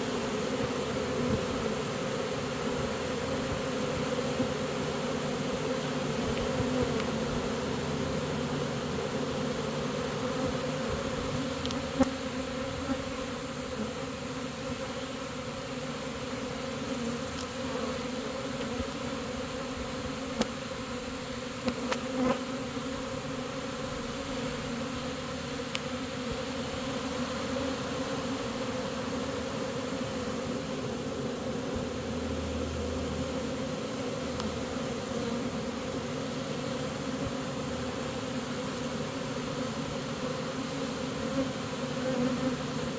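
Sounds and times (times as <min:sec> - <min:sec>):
bee swarm buzzing: 0:00.0 - 0:42.9.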